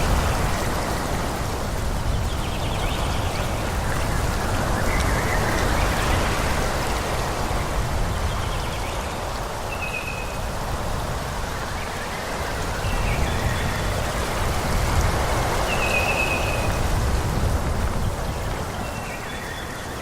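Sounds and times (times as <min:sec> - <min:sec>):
wind through forest trees: 0:00.0 - 0:20.0.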